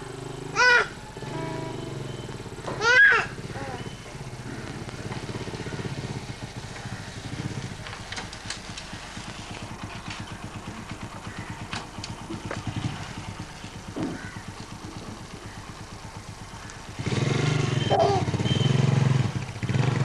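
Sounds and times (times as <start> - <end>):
small motorcycle engine: 0.0 - 20.0.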